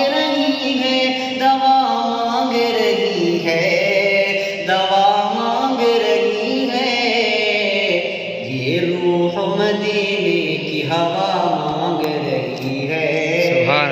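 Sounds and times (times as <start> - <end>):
man singing devotional song: 0.0 - 13.9.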